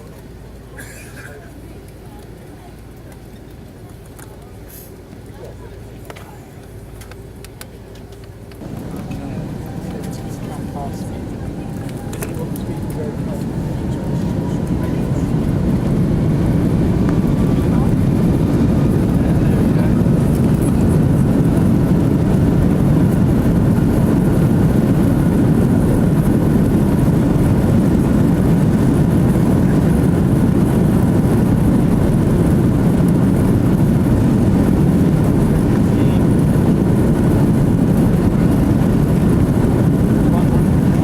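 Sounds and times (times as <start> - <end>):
airplane cabin drone: 0.0 - 41.0.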